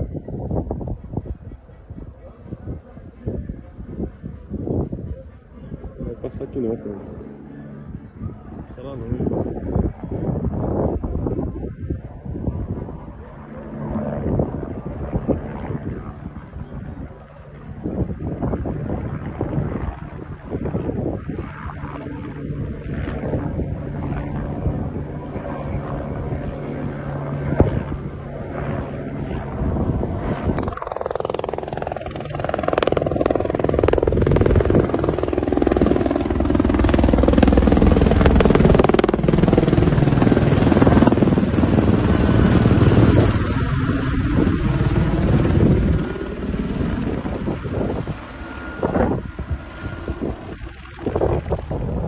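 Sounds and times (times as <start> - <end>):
helicopter flying overhead: 0.0 - 52.0.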